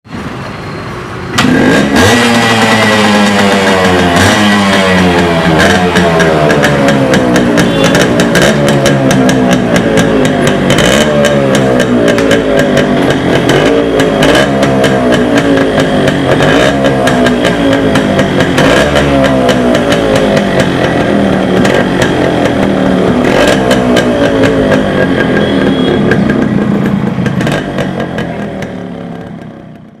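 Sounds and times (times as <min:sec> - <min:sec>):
two-stroke engine revving: 0:01.3 - 0:30.0.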